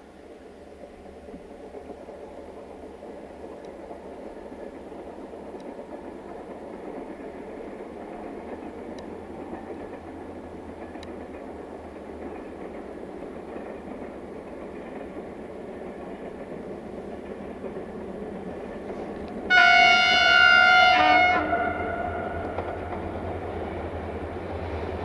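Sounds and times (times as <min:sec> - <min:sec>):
distant train rumble: 0:00.0 - 0:25.0.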